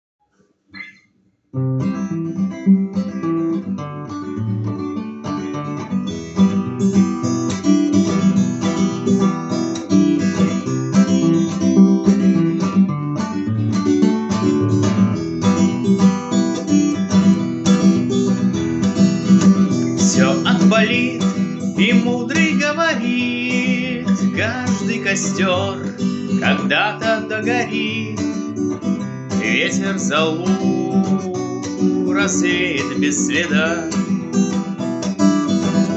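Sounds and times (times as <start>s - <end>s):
acoustic guitar strumming: 0.8s - 35.9s.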